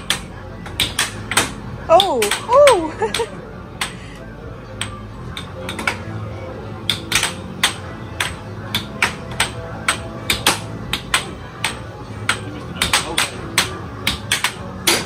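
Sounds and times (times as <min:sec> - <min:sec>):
air hockey puck clacking: 0:00.0 - 0:04.0, 0:04.8 - 0:06.1, 0:06.8 - 0:15.0.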